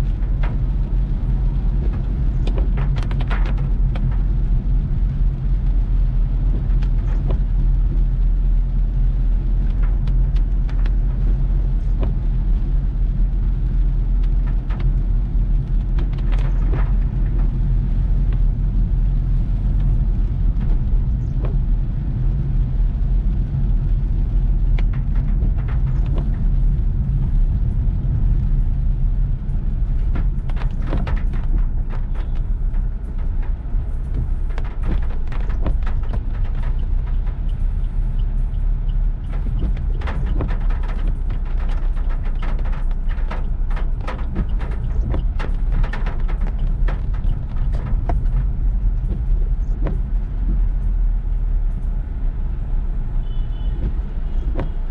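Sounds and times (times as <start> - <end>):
engine and road rumble: 0.0 - 54.9
sharp rain taps: 0.0 - 54.9.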